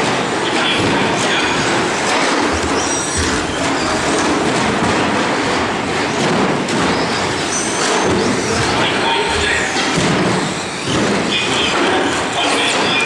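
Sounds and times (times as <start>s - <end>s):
rc trucks racing clatter: 0.0s - 13.0s.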